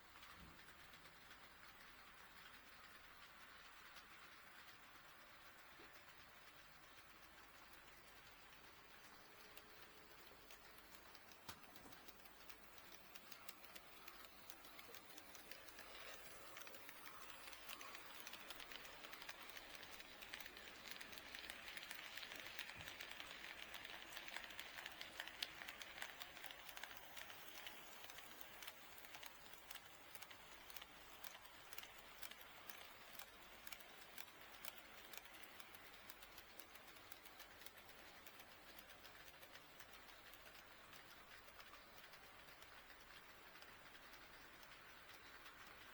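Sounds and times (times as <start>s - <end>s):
model train wheels clicking: 0.0s - 45.9s.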